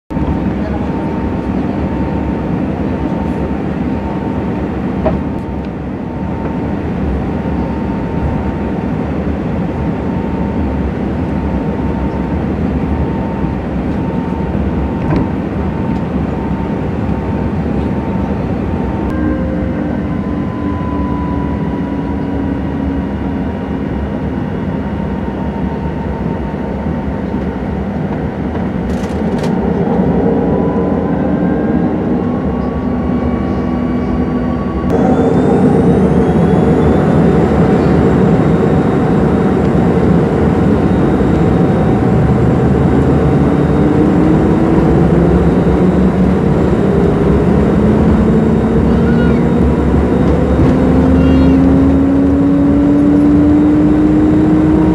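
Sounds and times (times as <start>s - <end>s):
airliner engines whine and hum: 0.1s - 54.9s.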